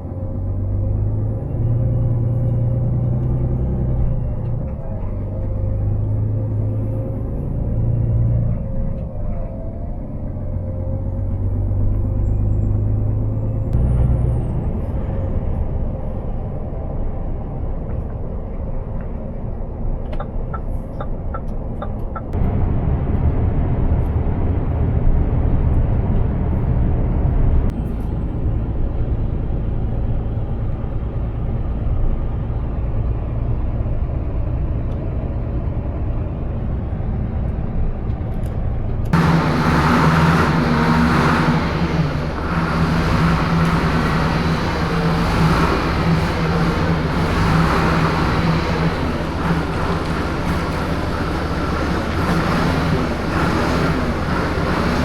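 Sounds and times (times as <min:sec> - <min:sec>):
heavy truck engine rumble: 0:00.0 - 0:55.0.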